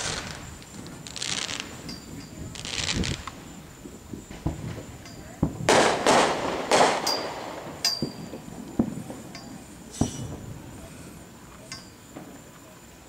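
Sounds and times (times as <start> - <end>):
firework bangs: 0.0 - 11.5
fireworks crackling and hissing: 0.0 - 13.0.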